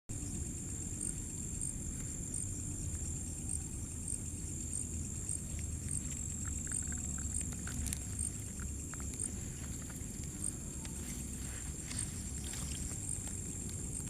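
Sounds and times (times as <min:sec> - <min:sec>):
insects buzzing and chirping: 0:00.1 - 0:14.0.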